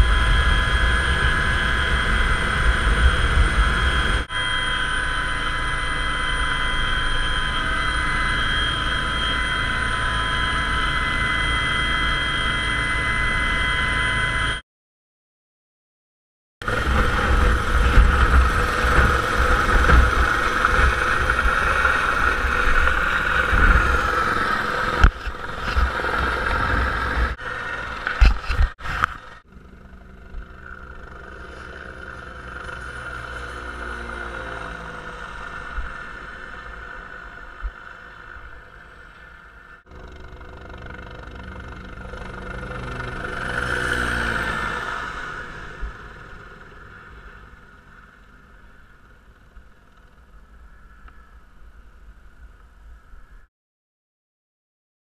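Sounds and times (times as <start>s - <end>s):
helicopter low rumble: 0.0s - 14.6s, 16.6s - 53.1s
helicopter rotor beat: 0.0s - 14.6s, 16.6s - 50.7s
helicopter turbine whine: 0.0s - 14.6s, 16.6s - 52.6s.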